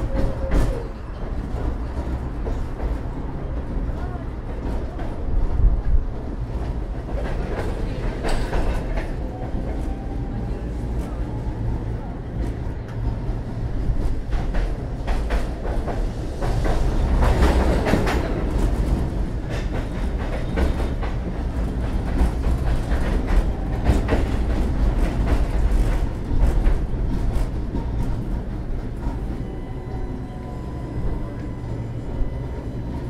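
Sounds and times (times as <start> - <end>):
tram running gear rumble: 0.0 - 33.0.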